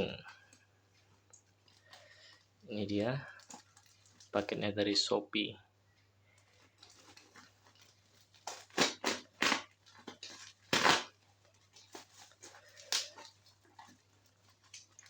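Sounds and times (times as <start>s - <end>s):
plastic package crinkling: 0.0s - 4.7s, 6.3s - 15.0s.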